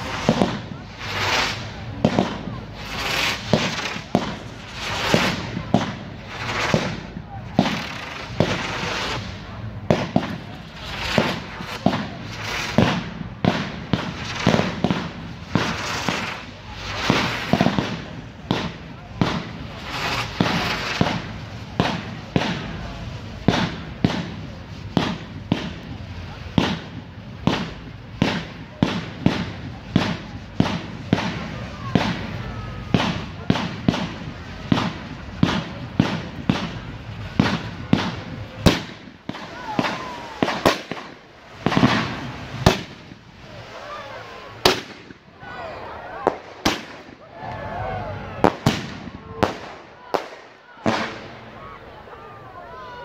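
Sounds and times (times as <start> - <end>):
fireworks popping: 0.0 - 47.6, 48.3 - 51.8
hiss of rising fireworks: 0.0 - 53.0.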